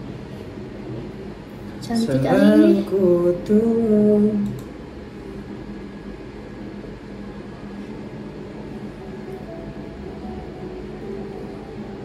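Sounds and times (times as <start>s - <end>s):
room noise hum and hiss: 0.0s - 12.0s.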